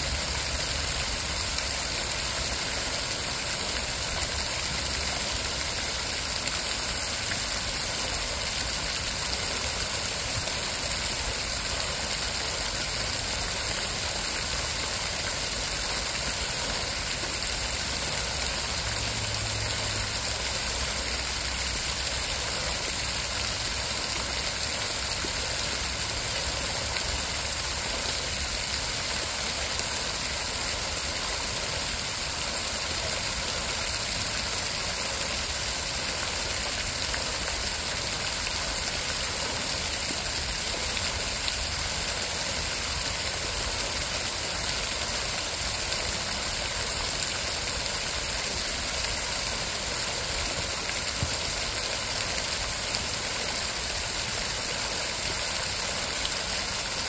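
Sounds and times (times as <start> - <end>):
fountain water splashing: 0.0 - 57.0.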